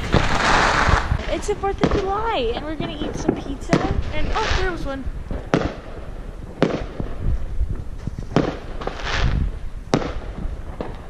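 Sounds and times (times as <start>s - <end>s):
firework rushing burst: 0.0s - 11.0s
fireworks bangs: 0.0s - 11.0s.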